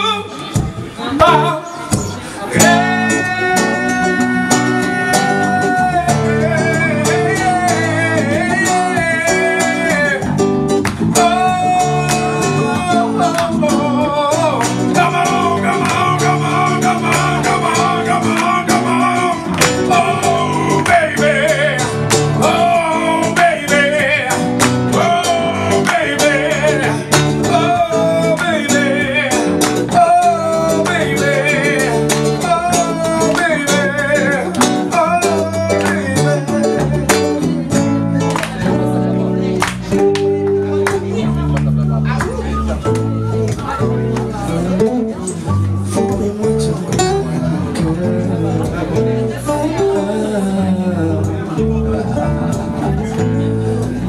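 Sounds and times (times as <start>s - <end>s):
man singing: 0.0s - 42.9s, 43.6s - 54.0s
guitar accompaniment: 0.0s - 54.0s.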